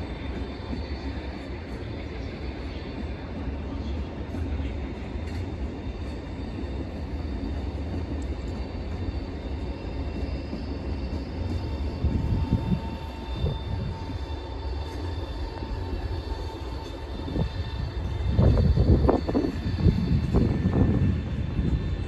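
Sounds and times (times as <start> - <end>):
faint whine: 0.0 - 22.0
train rumbling: 0.0 - 22.0.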